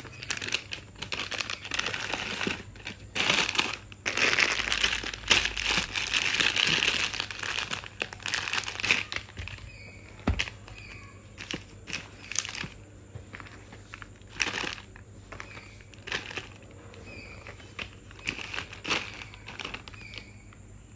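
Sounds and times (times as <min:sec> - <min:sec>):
plastic wrappers crinkling: 0:00.0 - 0:20.9.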